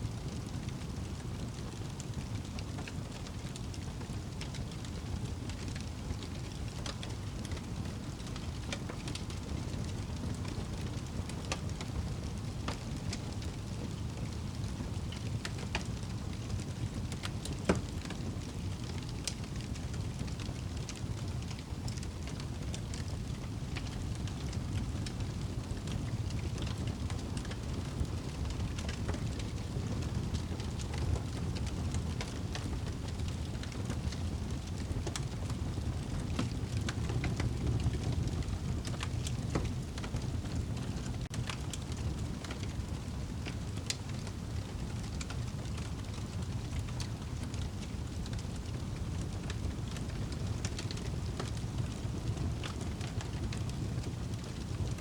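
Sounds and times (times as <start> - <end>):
low rumble of flames: 0.0 - 55.0
fire crackles and pops: 0.1 - 55.0.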